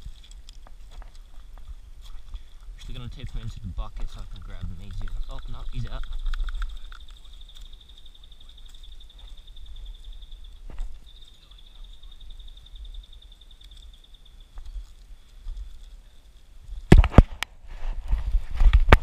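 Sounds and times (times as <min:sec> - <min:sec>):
insect trilling: 0:00.0 - 0:16.9.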